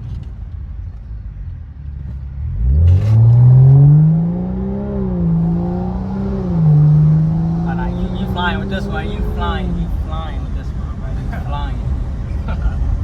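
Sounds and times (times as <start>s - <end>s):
car exhaust rumbling and droning: 0.0s - 13.0s.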